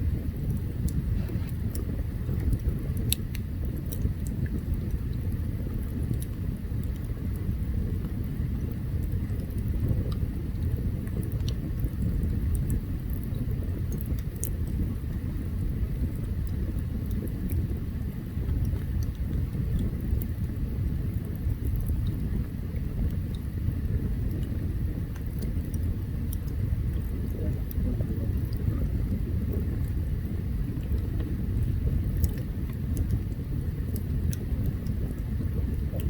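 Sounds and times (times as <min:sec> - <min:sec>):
campfire rumble: 0:00.0 - 0:36.0
fire crackling and popping: 0:00.0 - 0:36.0.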